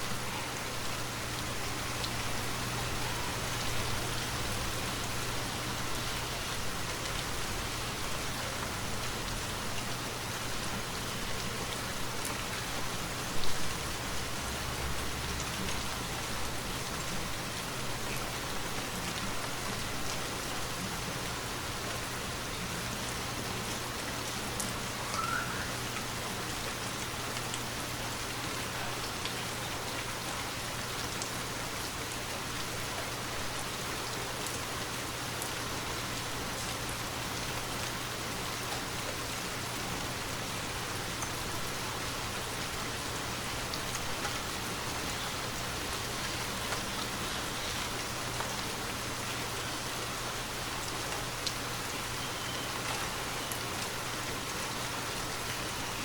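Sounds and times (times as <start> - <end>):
rain falling on trees: 0.0 - 56.0.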